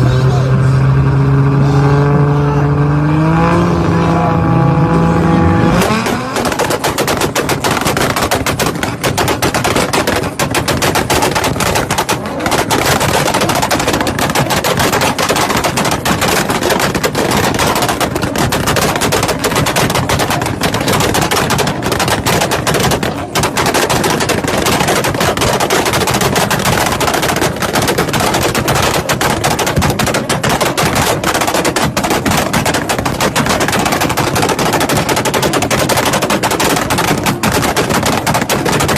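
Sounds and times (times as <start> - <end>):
car exhaust popping bangs: 5.6 - 38.9.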